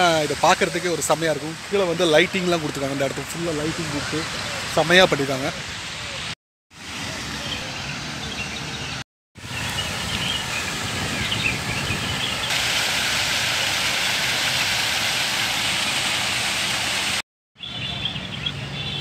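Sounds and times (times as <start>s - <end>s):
fountain water splashing: 0.0s - 17.2s.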